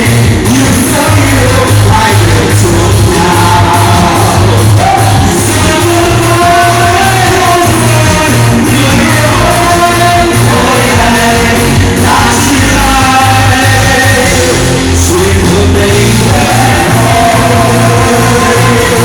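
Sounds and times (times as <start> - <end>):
amplified backing music: 0.0 - 19.0
vocal trio singing: 0.0 - 19.0.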